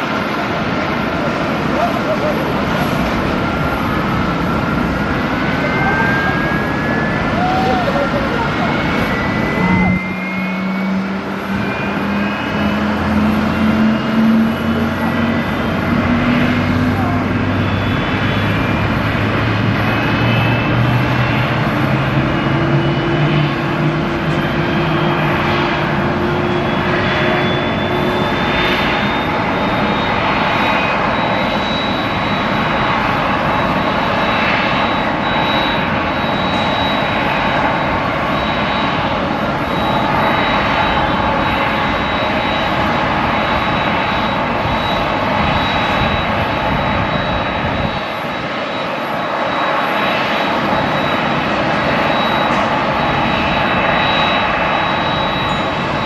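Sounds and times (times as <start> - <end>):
airliner engine rushing and whining: 0.0 - 56.0.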